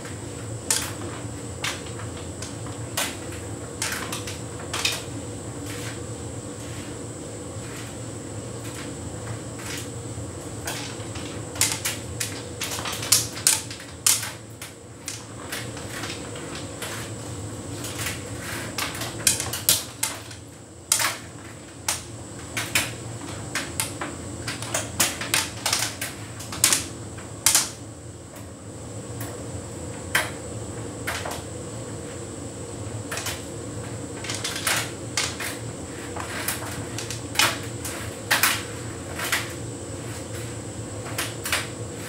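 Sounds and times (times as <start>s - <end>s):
tumble dryer humming: 0.0s - 42.0s.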